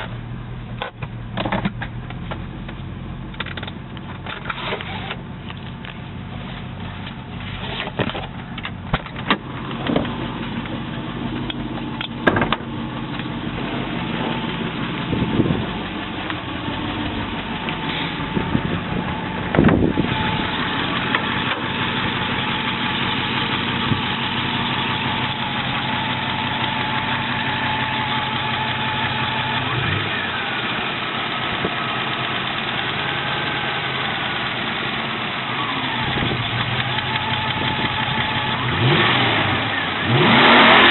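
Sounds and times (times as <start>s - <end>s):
car engine idling with faint knock: 0.0s - 4.4s, 5.4s - 38.6s.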